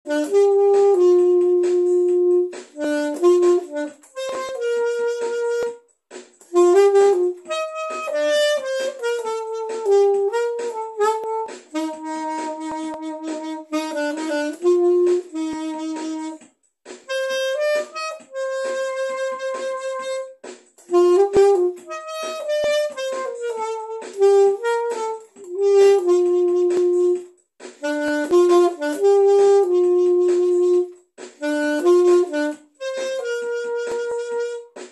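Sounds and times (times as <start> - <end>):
solo saxophone melody: 0.0 - 5.9, 6.5 - 34.9.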